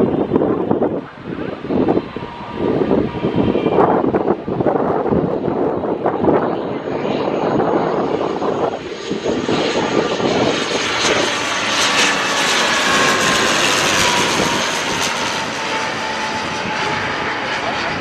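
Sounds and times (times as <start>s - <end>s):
turboprop aircraft passing overhead: 0.0s - 18.0s.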